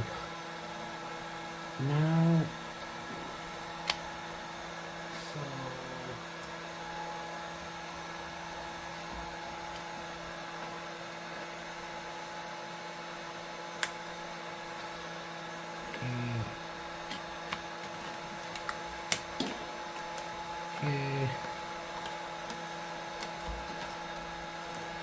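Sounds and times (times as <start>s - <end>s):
appliance electrical hum: 0.0s - 25.0s.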